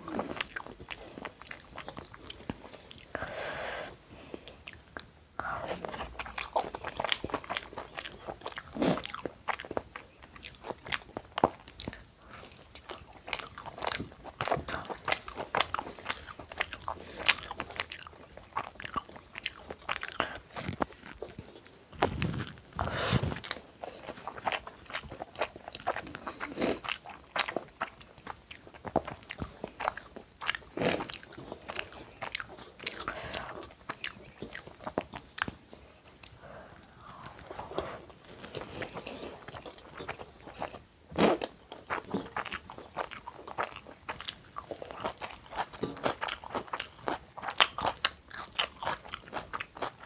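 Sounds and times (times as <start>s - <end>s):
wet chewing and biting: 5.7s - 36.4s, 37.0s - 50.0s.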